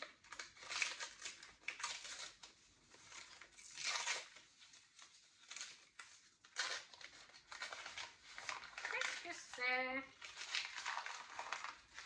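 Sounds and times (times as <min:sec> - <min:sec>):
gift wrapping crinkling and tearing: 0:00.0 - 0:12.0.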